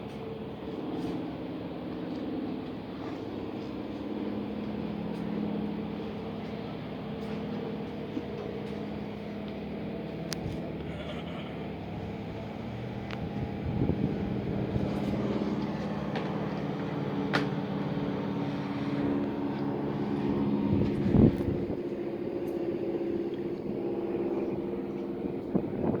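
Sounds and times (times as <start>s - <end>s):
large engine humming: 0.0s - 26.0s.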